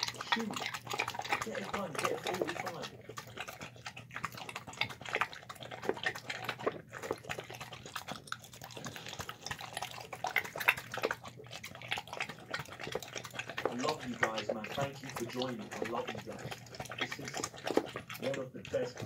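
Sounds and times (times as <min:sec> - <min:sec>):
dog eating from plastic bowl: 0:00.0 - 0:19.0.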